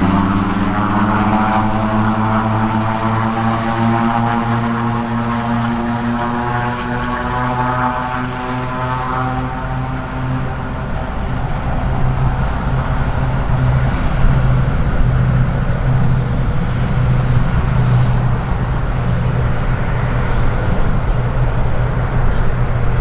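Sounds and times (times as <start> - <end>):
engine running with low hum: 0.0 - 23.0.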